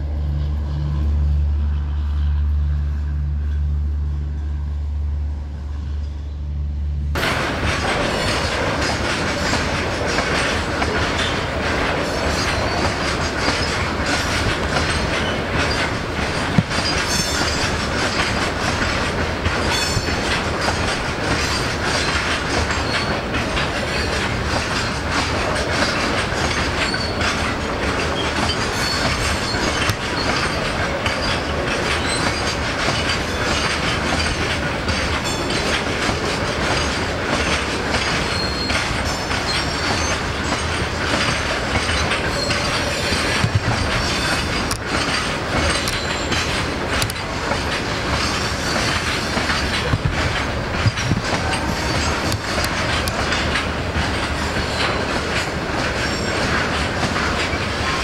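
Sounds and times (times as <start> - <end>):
freight train rumbling past: 0.0 - 58.0
wheels clacking over rail joints: 7.2 - 58.0.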